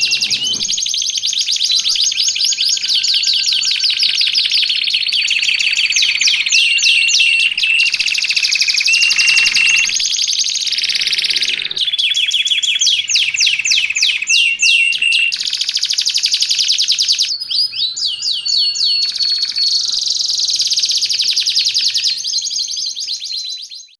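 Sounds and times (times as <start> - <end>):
canary singing trills: 0.0 - 23.9.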